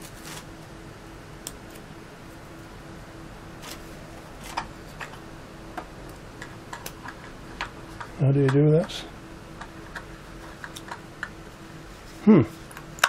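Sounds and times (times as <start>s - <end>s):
faint pulsing low hum: 0.0s - 13.0s.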